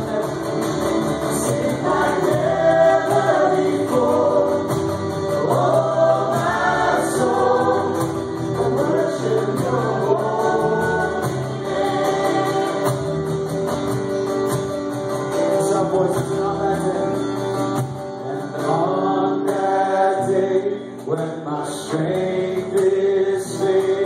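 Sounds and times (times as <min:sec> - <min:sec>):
instrumental backing: 0:00.0 - 0:20.1
choir singing gospel music: 0:00.0 - 0:24.0.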